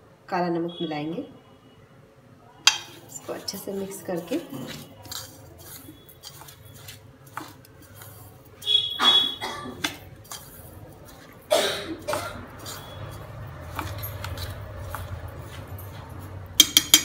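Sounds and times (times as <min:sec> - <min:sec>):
spoon stirring in steel bowl: 0:02.7 - 0:17.0.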